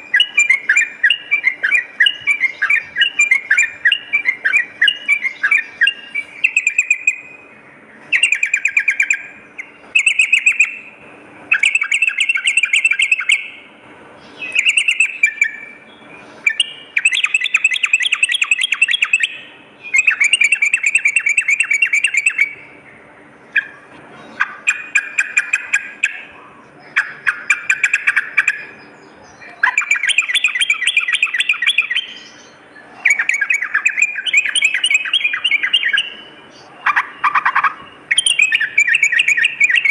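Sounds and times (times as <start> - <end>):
bulbul warbling song: 0.0 - 10.9, 11.5 - 13.7, 14.3 - 22.8, 23.5 - 39.9.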